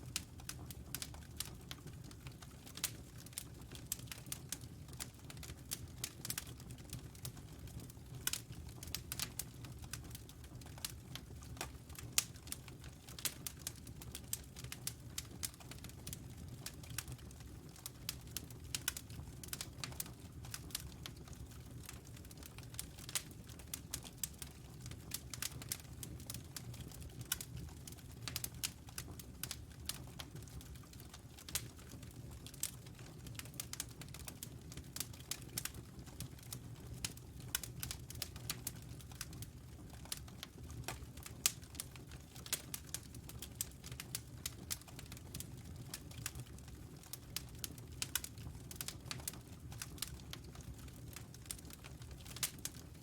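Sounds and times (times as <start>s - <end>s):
low rumble of flames: 0.0s - 53.0s
wood fire crackling and popping: 0.0s - 53.0s.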